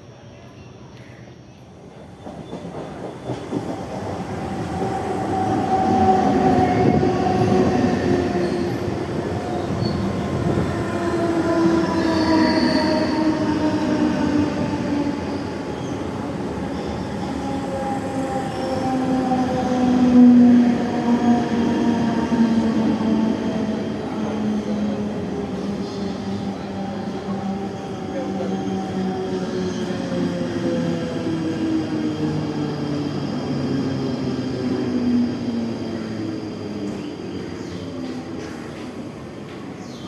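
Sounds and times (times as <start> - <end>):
train rumbling past: 1.8 - 40.0.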